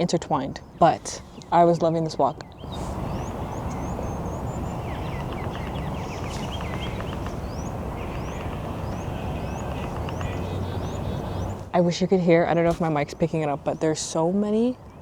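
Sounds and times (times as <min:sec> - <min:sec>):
birds chirping: 0:00.0 - 0:15.0
low rushing background noise: 0:00.0 - 0:15.0.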